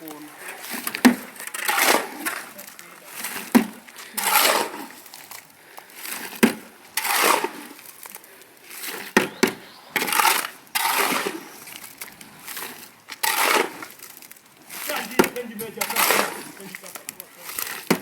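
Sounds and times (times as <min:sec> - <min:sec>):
shovel scraping concrete mix: 0:00.0 - 0:18.0.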